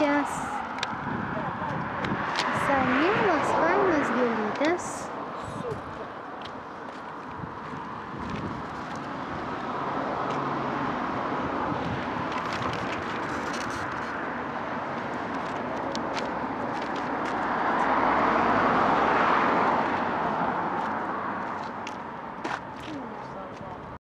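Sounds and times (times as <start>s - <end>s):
car passing by: 0.0s - 22.3s.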